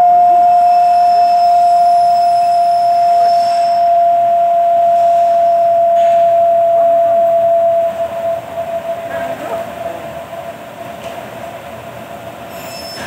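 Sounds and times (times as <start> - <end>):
milling machine whine: 0.0 - 13.0.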